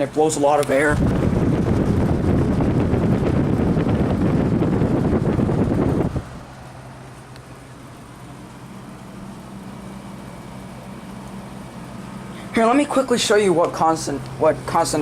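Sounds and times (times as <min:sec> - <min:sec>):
air conditioner fan rushing: 0:00.0 - 0:15.0
air conditioner humming: 0:00.0 - 0:15.0.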